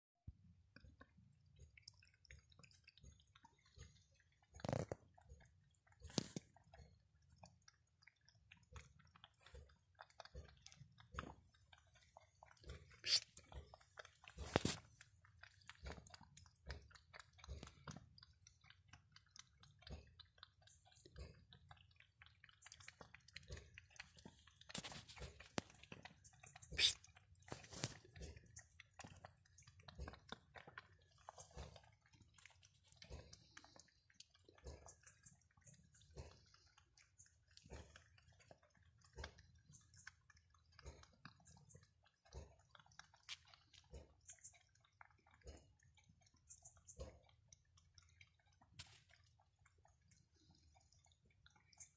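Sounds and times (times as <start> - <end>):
cats chewing wet food: 0.3 - 51.9.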